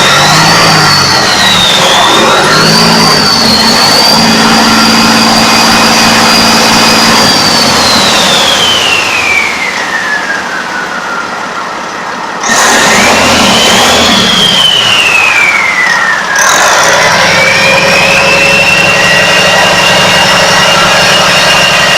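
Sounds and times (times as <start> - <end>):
engine running with high whine: 0.0 - 21.9.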